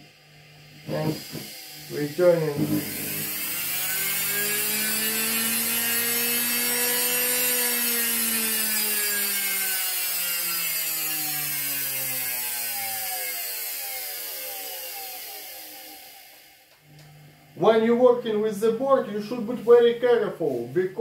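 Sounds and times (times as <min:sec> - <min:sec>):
electric motor whine: 0:00.0 - 0:17.7.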